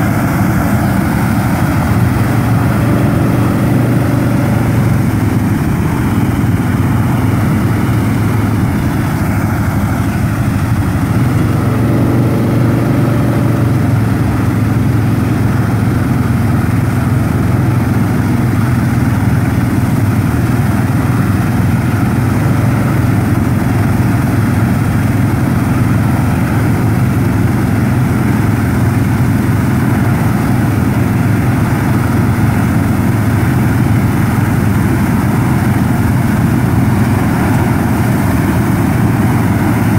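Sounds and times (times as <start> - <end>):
flame burners roaring: 0.0 - 14.1, 20.5 - 39.9
tractor engine low hum: 0.0 - 39.9.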